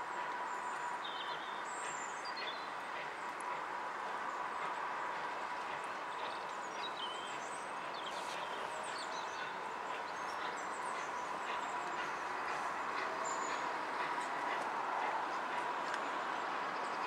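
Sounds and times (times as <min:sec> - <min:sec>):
steam engine approaching: 0:00.0 - 0:17.0.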